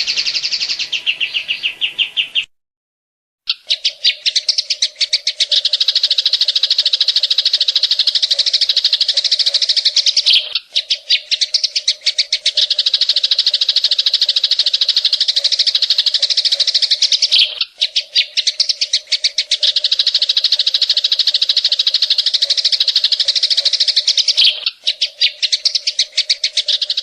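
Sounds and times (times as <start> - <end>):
bird rapid sharp chirps: 0.0 - 2.5, 3.5 - 27.0.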